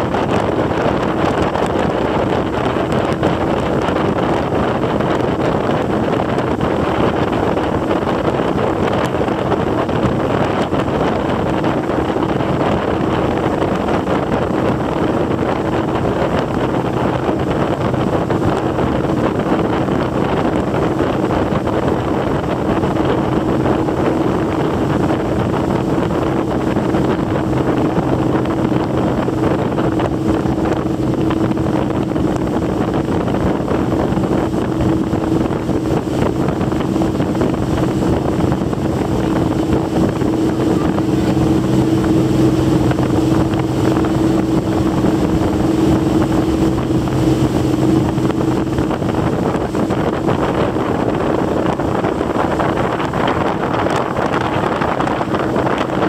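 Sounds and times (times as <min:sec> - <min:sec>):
motorboat engine droning: 0:00.0 - 0:56.0
water rushing along hull: 0:00.0 - 0:56.0
wind buffeting microphone: 0:00.0 - 0:56.0.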